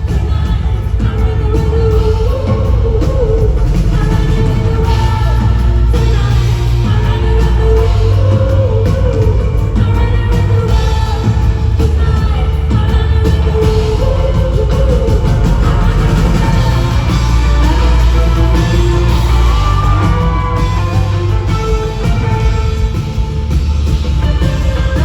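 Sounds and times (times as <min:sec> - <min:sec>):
live pop-rock band: 0:00.0 - 0:25.0
woman singing: 0:00.0 - 0:25.0.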